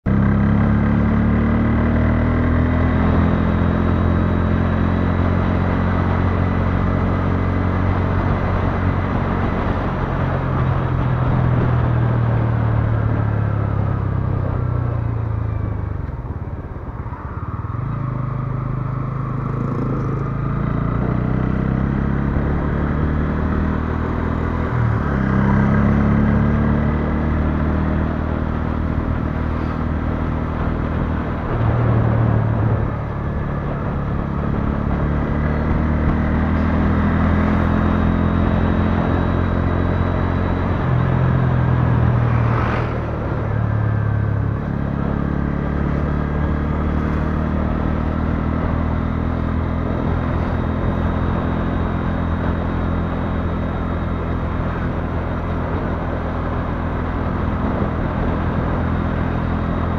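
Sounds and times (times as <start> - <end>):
wind and road noise: 0.0 - 59.9
motorcycle engine running: 0.1 - 59.9.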